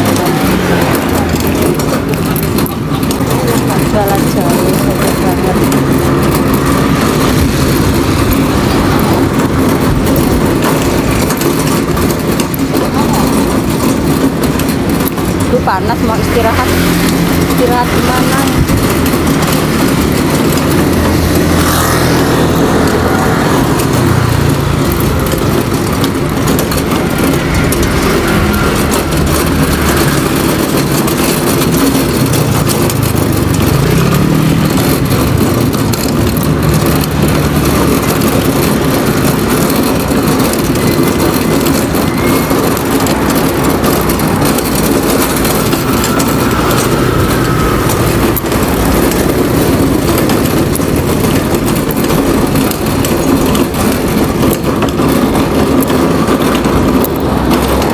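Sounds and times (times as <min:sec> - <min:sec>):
motor scooter engine and road noise: 0:00.0 - 0:57.9.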